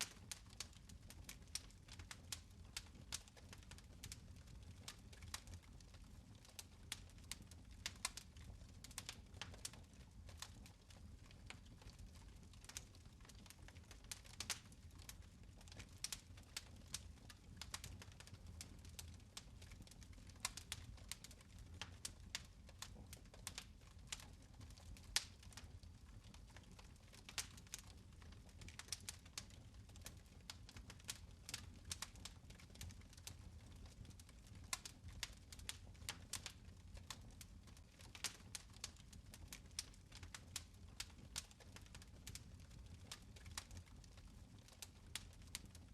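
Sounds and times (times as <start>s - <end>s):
fire crackling in a fireplace: 0.0s - 45.9s.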